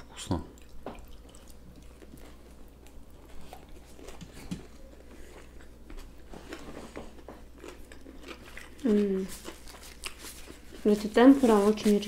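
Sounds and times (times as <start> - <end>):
people chewing food: 0.0 - 11.8.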